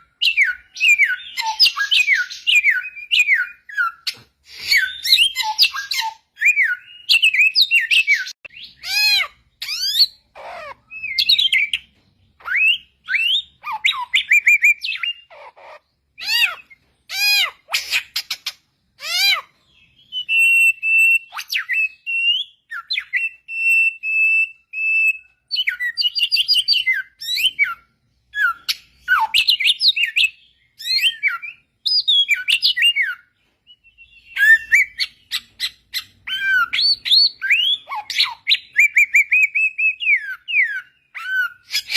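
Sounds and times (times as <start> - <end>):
bird singing whistled phrases: 0.2 - 10.2, 10.9 - 15.3, 19.1 - 41.9.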